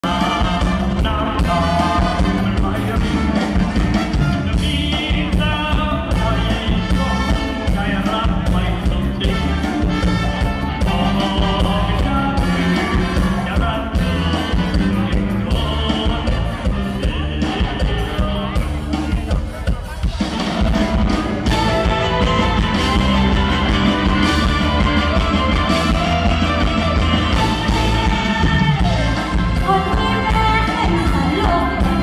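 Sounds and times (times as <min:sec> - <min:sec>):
person singing: 0:00.0 - 0:20.0, 0:20.8 - 0:32.0
live stage-band music: 0:00.0 - 0:32.0.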